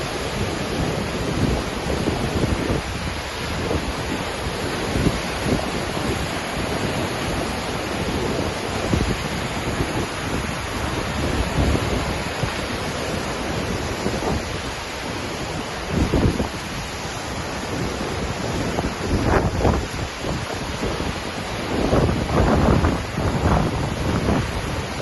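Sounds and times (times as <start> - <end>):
waterfall rushing: 0.0 - 25.0
wind buffeting microphone: 0.0 - 25.0.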